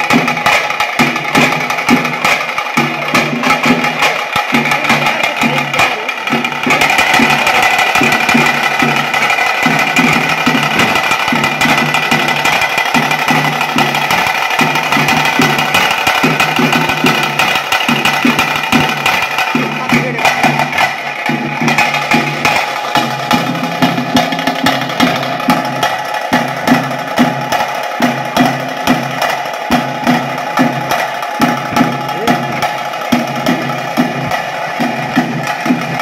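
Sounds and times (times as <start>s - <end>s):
drums beaten fast with sticks: 0.0s - 36.0s.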